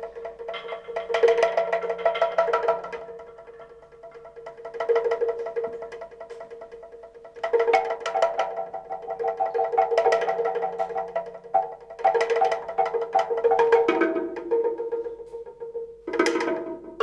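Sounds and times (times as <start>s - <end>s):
rapid struck notes: 0.0s - 17.0s.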